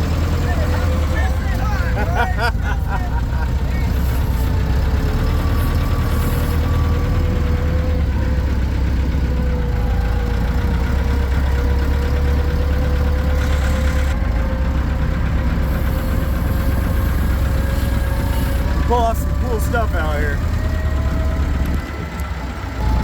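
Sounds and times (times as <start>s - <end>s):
faint engine whine: 0.0s - 23.0s
vehicle engine rumbling: 0.0s - 23.0s.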